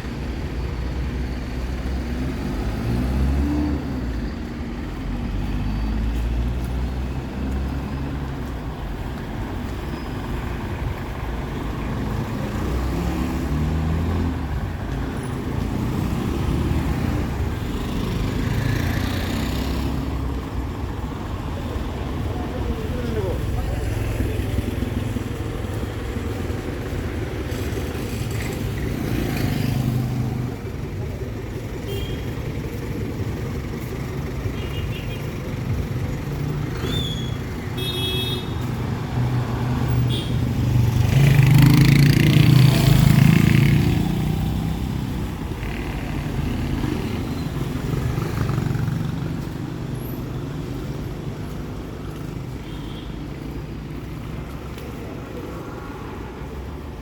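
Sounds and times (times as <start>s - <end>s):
cars and motorcycles passing: 0.0s - 57.0s.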